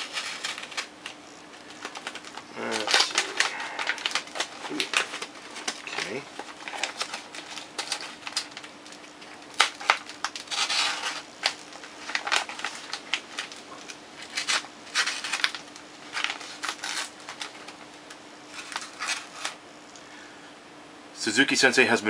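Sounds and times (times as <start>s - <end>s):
knife cutting paper envelope: 0.0s - 17.8s.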